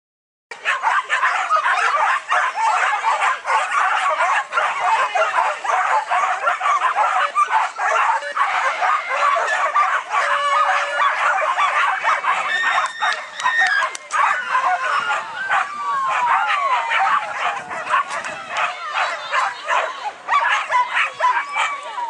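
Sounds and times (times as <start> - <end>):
dogs barking and yipping: 0.5 - 22.0.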